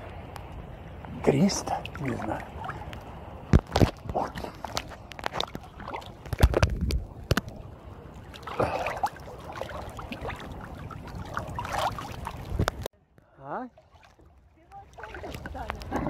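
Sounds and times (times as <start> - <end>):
sea water splashing and sloshing: 0.0 - 16.0
waves slapping camera: 0.0 - 16.0.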